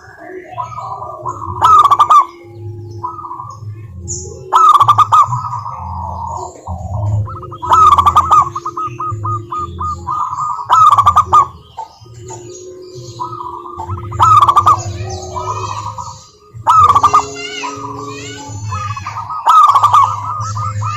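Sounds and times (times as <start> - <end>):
dove cooing: 0.0 - 20.9.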